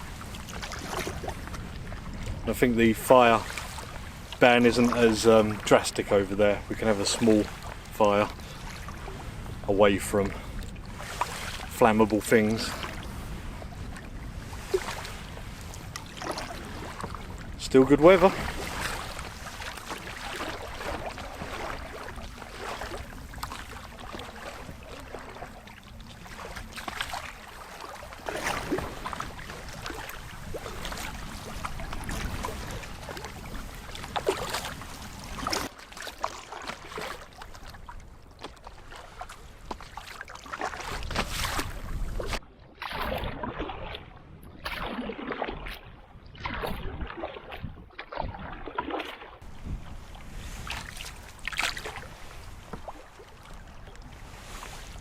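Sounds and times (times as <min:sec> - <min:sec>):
wind rumbling on microphone: 0:00.0 - 0:35.7, 0:40.9 - 0:48.8, 0:49.4 - 0:55.0
paddle strokes splashing: 0:00.0 - 0:55.0
water lapping at hull: 0:00.0 - 0:55.0.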